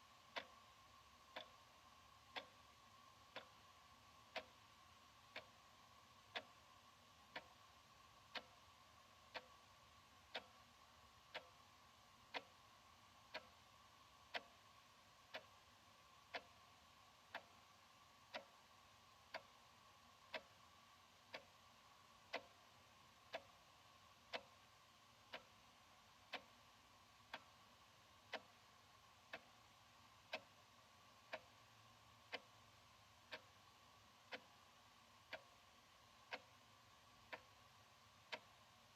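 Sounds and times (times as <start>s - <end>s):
wall clock ticking: 0.0s - 38.9s.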